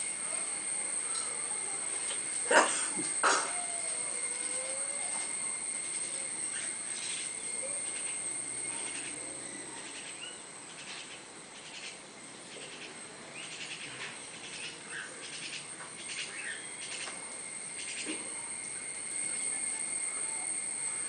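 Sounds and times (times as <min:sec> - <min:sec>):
faint distant calls: 0:00.0 - 0:21.0
insects droning: 0:00.0 - 0:21.0.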